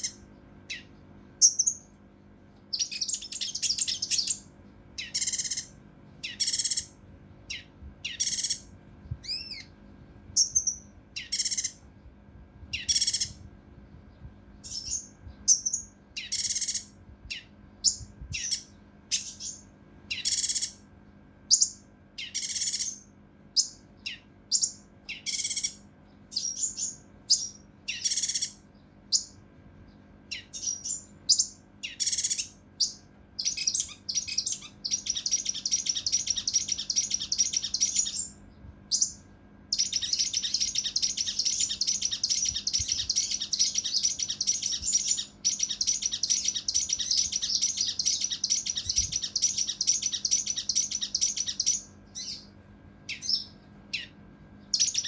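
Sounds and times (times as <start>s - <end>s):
rough rattling bird trill: 0.0s - 1.9s, 2.7s - 9.7s, 10.4s - 11.8s, 12.7s - 13.4s, 14.6s - 20.8s, 21.5s - 29.4s, 30.3s - 52.5s, 53.1s - 55.0s
bird singing: 0.0s - 2.0s, 2.6s - 9.8s, 10.4s - 11.8s, 12.7s - 13.4s, 14.6s - 20.9s, 21.5s - 55.0s.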